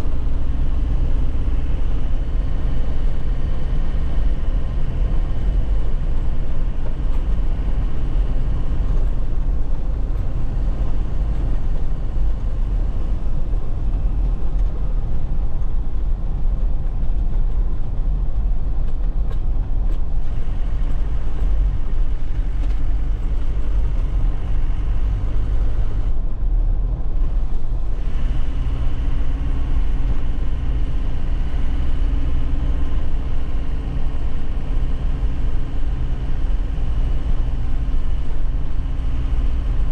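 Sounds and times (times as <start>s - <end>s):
diesel truck engine running: 0.0s - 39.9s
low road rumble: 0.0s - 39.9s.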